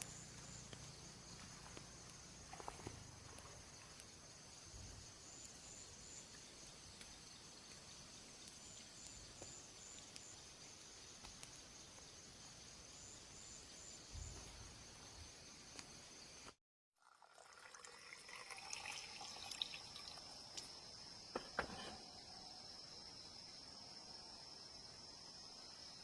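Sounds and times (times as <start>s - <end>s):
insects chirping: 0.0s - 16.6s, 17.2s - 26.0s.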